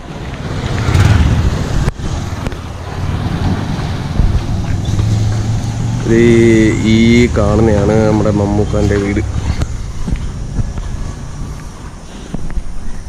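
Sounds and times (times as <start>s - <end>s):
low engine hum: 0.0s - 12.7s
motorcycle engines running: 0.0s - 13.0s.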